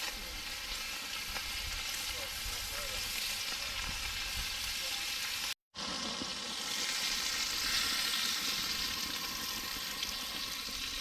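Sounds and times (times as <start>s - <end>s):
bacon sizzling on a grill: 0.0s - 11.0s.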